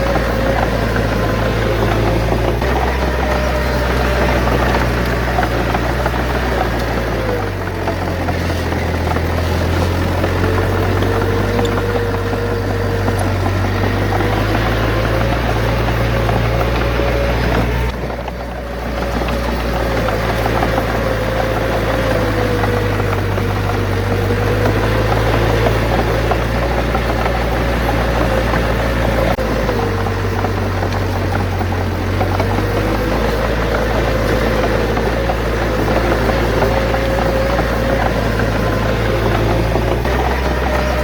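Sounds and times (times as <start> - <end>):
continuous rattle: 0.0 - 41.0
heavy diesel engine running: 0.0 - 41.0
whining tone: 0.0 - 41.0.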